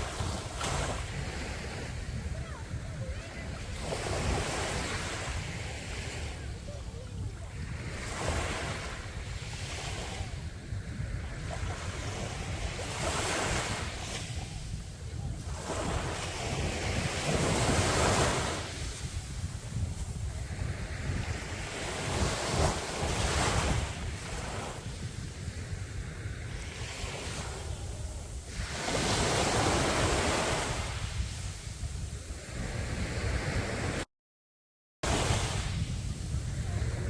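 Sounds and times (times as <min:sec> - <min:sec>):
sea waves breaking on beach: 0:00.0 - 0:34.1, 0:35.0 - 0:37.0
wind rumbling on microphone: 0:00.0 - 0:34.1, 0:35.0 - 0:37.0.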